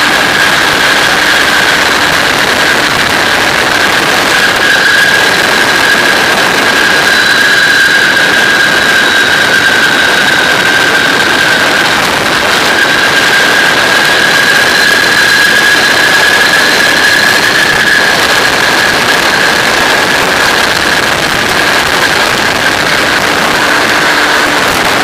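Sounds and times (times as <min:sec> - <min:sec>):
microlight engine and propeller: 0:00.0 - 0:25.0
steady high-pitched whine: 0:00.0 - 0:25.0
wind rush over microphone: 0:00.0 - 0:25.0.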